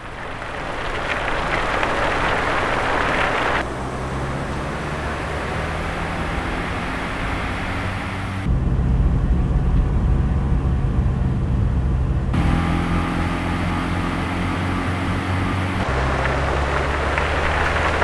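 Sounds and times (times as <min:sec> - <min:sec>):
car engine drone: 0:00.0 - 0:18.0
tyre and road noise: 0:00.0 - 0:18.0.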